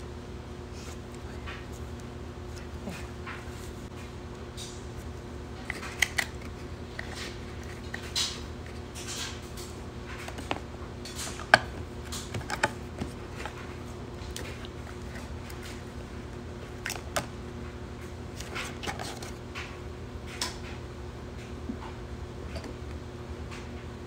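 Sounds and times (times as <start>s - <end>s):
low hum: 0.0s - 20.2s.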